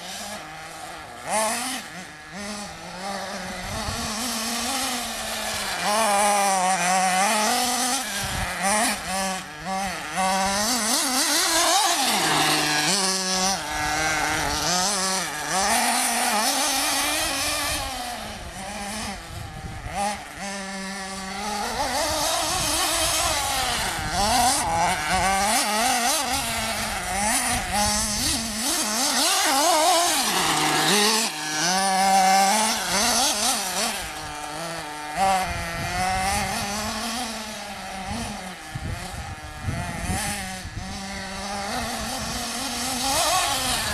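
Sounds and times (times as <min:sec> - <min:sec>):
small two-stroke engine revving: 0:00.0 - 0:43.9.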